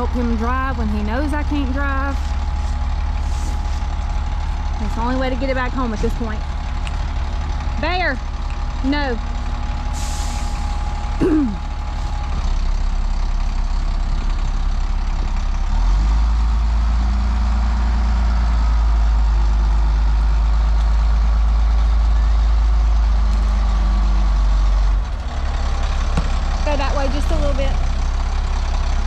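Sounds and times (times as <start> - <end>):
truck diesel engine droning: 0.0 - 29.0.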